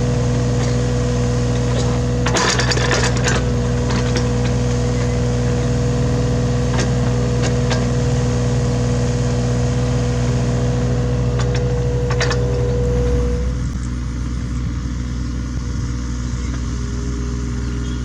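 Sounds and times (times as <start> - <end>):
high whine: 0.0 - 17.1
excavator diesel engine running: 0.0 - 18.0.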